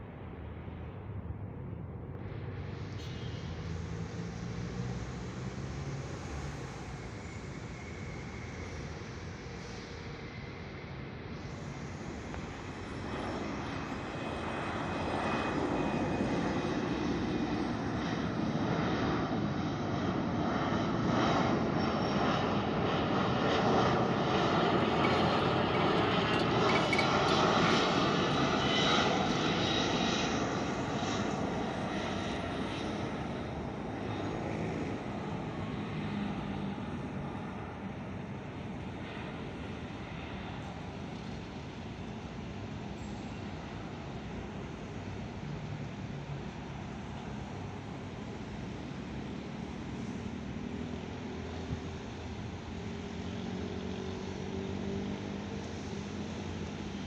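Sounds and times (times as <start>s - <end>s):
jet engines of landing plane: 0.0s - 57.0s.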